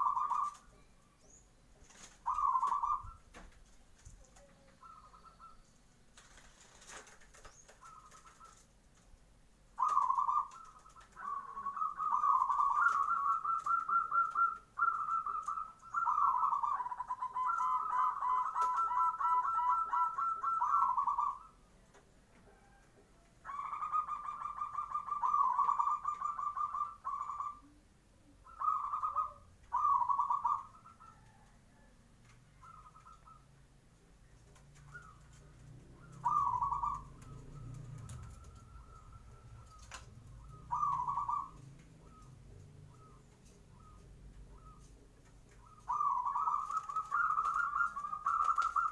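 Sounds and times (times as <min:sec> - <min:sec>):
dove cooing: 0:00.0 - 0:08.7, 0:09.7 - 0:48.9.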